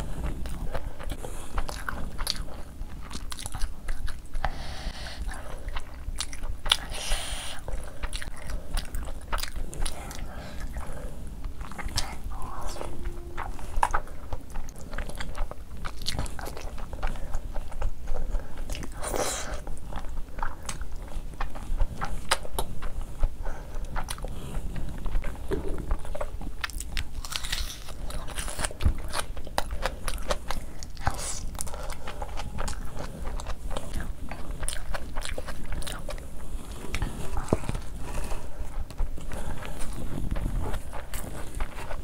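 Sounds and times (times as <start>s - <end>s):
wet chewing: 0.0s - 42.0s.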